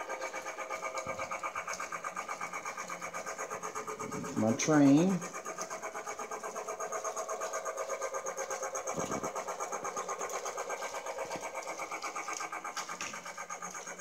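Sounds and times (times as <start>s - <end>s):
toy train clattering on track: 0.0s - 14.0s.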